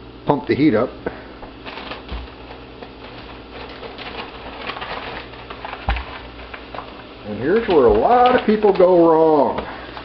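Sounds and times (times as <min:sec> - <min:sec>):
sausage fat sizzling and popping: 0:01.0 - 0:10.0.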